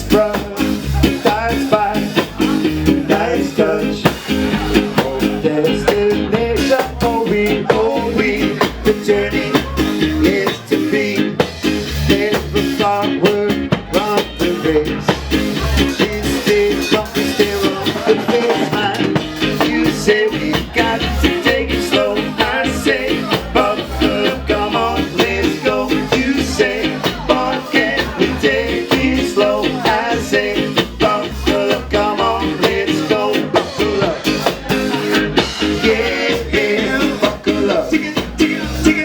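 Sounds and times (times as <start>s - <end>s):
live ska band music: 0.0s - 39.0s.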